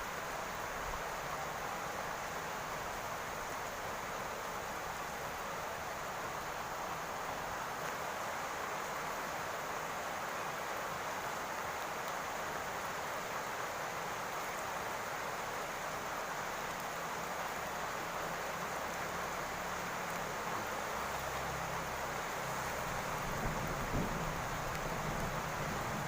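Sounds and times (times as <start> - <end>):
rain on a roof: 0.0 - 26.0.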